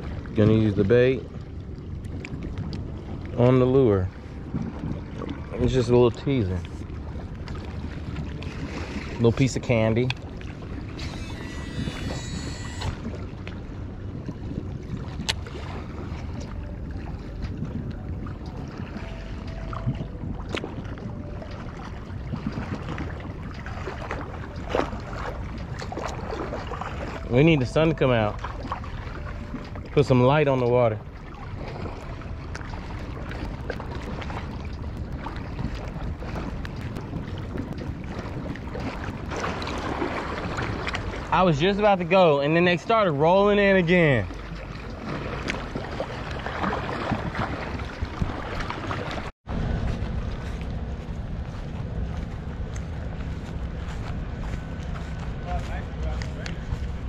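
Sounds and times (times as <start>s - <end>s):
water lapping: 0.0s - 57.0s
wind on microphone: 0.0s - 57.0s.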